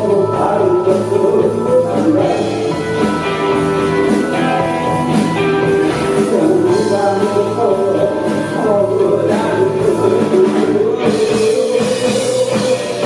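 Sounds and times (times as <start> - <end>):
drums: 0.0 - 13.0
guitar: 0.0 - 13.0
person singing: 0.0 - 13.0
rock band playing: 0.0 - 13.0.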